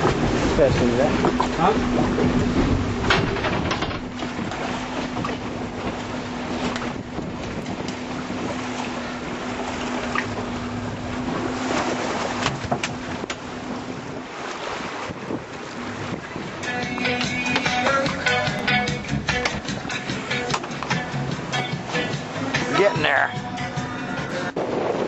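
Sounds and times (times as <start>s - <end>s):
wind noise on microphone: 0.0s - 20.3s, 23.6s - 25.0s
boat engine humming: 0.0s - 25.0s.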